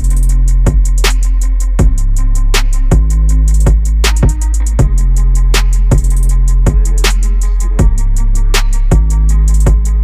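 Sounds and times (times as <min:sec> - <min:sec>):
drum machine beat with heavy bass: 0:00.0 - 0:10.0.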